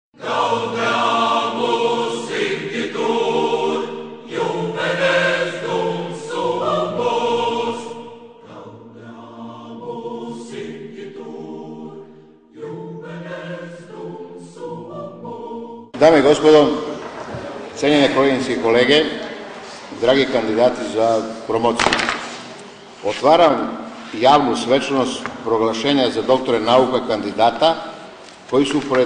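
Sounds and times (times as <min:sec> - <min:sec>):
choir singing: 0:00.2 - 0:21.6, 0:22.4 - 0:28.2.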